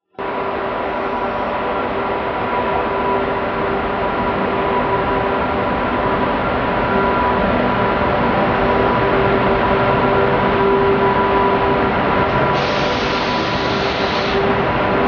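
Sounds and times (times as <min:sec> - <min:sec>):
electric locomotive rumbling and humming: 0:00.0 - 0:15.0.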